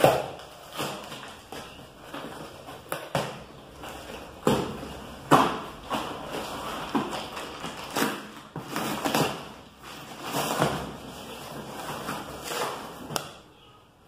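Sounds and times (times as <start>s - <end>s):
cardboard rustling and scraping: 0.0s - 13.2s.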